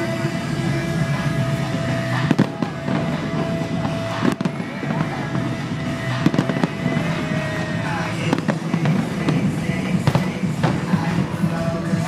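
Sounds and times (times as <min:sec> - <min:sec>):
fireworks bang: 0:00.0 - 0:12.0
fireworks popping: 0:00.0 - 0:12.0
music playing: 0:00.0 - 0:12.0.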